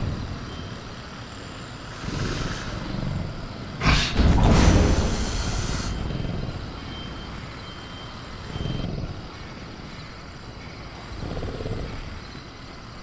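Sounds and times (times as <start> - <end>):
dark low ambient rumble: 0.0 - 13.0.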